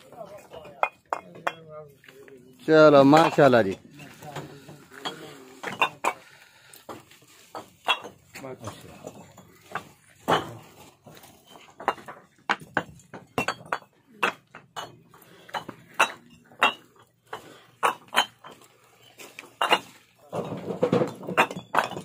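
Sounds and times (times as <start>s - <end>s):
bricks clinking together: 0.0s - 1.8s, 3.0s - 22.0s.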